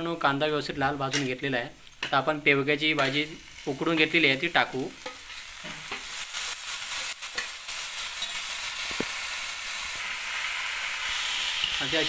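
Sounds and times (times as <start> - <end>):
greens sizzling in hot oil: 0.0 - 12.0.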